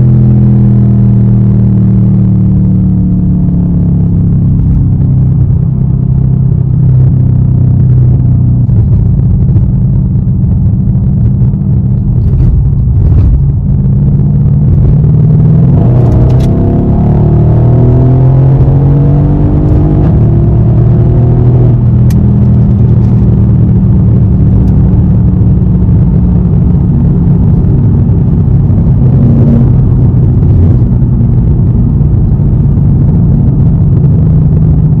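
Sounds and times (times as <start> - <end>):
car engine under full throttle: 0.0 - 35.0
road noise: 0.0 - 35.0.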